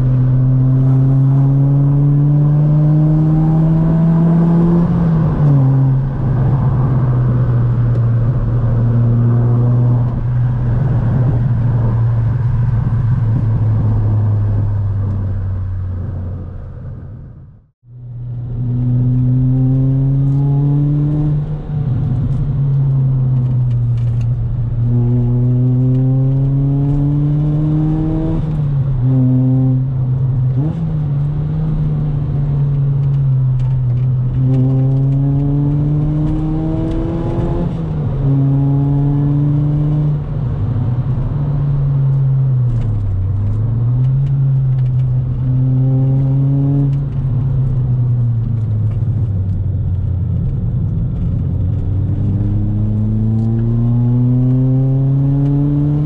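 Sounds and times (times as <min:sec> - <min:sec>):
car engine revving through gears: 0:00.0 - 0:16.4, 0:18.1 - 0:56.0.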